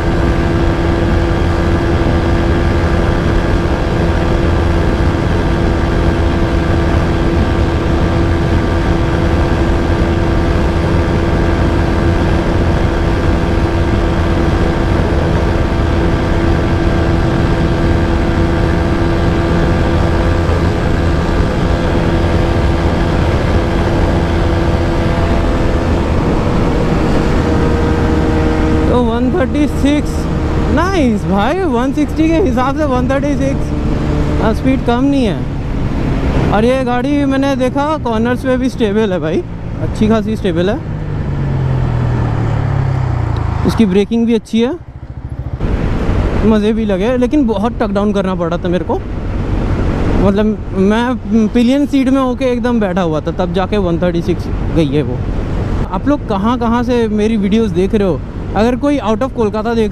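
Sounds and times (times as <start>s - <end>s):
motorcycle engine at high revs: 0.0s - 52.9s
wind rush on microphone: 0.0s - 59.9s.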